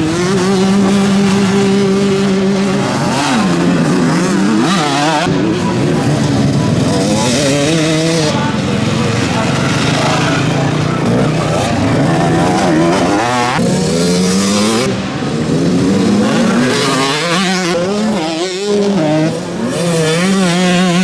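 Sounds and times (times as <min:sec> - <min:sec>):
motorcycle engines racing: 0:00.0 - 0:21.0.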